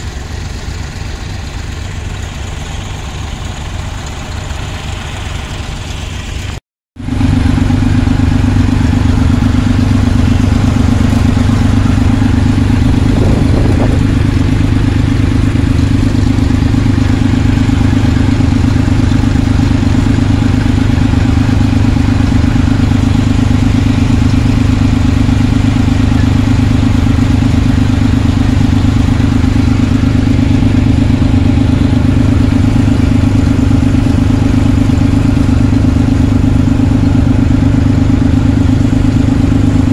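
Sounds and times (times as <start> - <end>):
tractor engine clattering: 0.0 - 39.9.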